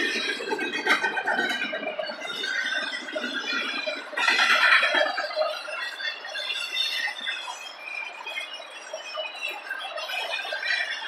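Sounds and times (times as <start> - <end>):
train rolling noise: 0.0 - 11.0
train wheels squealing: 0.0 - 11.0.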